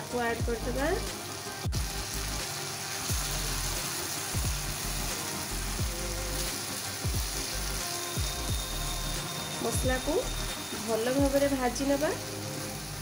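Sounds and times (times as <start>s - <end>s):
background music: 0.0s - 13.0s
paste sizzling in hot oil: 0.0s - 13.0s.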